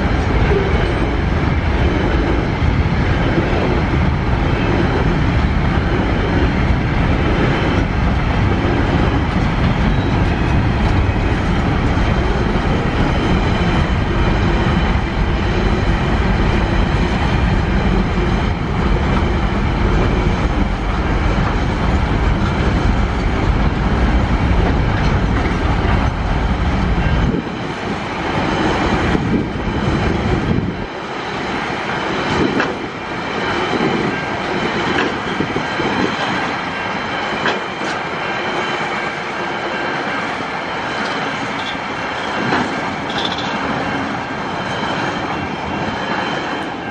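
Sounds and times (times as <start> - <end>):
faint rail noise: 0.0 - 46.9
freight train rumbling past: 0.0 - 46.9.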